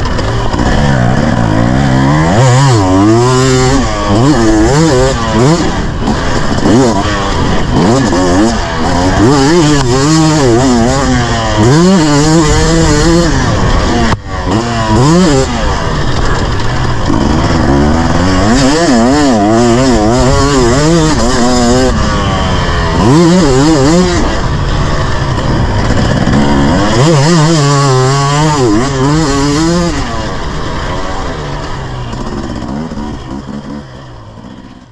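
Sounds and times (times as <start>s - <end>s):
motocross bike engine revving: 0.0s - 34.9s
rumble from sandy track: 0.0s - 34.9s
wind: 0.0s - 34.9s.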